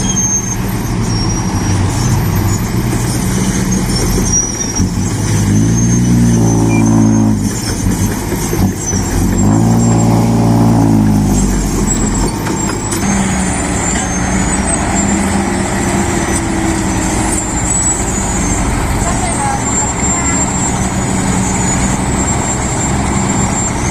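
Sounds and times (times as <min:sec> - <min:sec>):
diesel truck engine revving: 0:00.0 - 0:23.9.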